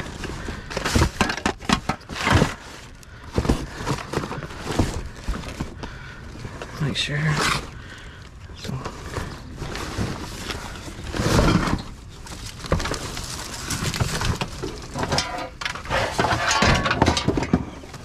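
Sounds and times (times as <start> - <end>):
hard objects clattering and clinking: 0.0 - 6.7, 8.7 - 18.0.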